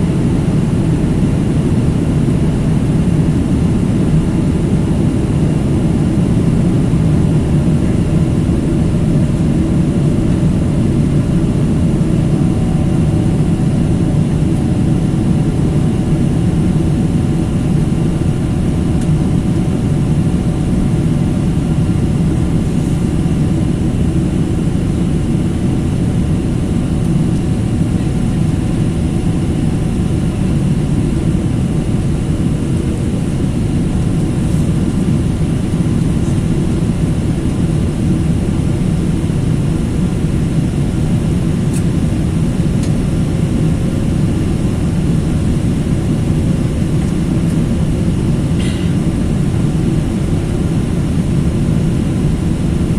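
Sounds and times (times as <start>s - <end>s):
jet engines droning: 0.0s - 52.9s.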